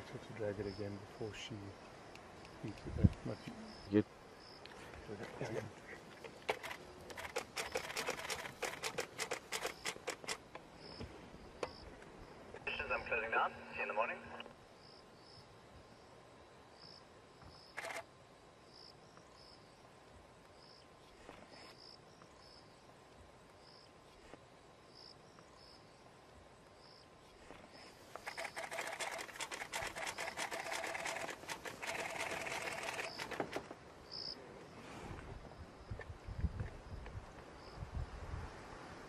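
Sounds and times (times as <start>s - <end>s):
night insects chirping: 0.0s - 39.0s.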